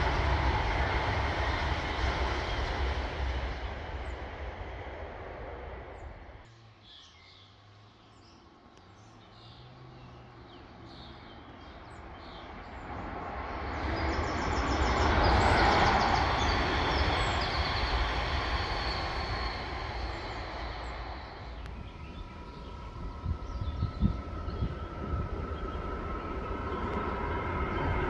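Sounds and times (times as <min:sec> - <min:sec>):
electric train passing: 0:00.0 - 0:06.7, 0:09.6 - 0:28.0.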